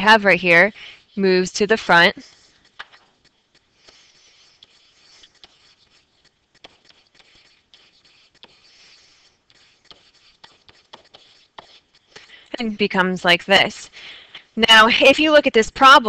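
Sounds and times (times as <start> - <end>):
pen stylus scratching and tapping: 0.0 - 13.8.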